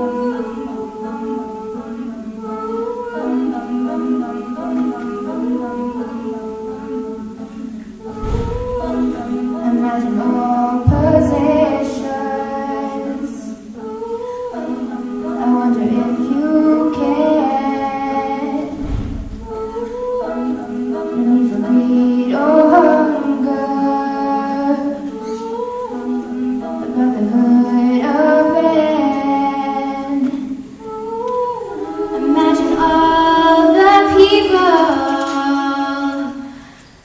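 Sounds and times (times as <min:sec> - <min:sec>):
girls singing a cappella in harmony: 0:00.0 - 0:37.0.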